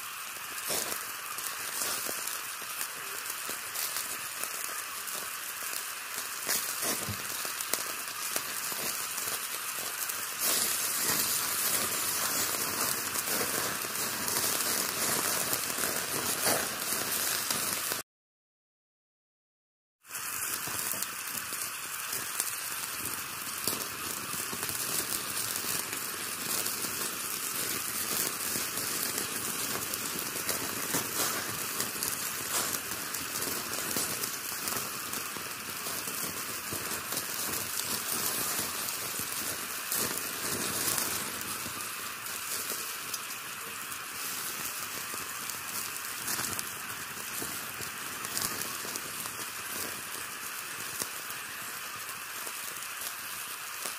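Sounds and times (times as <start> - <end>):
meat sizzling on charcoal grill: 0.0 - 18.0, 20.0 - 53.9.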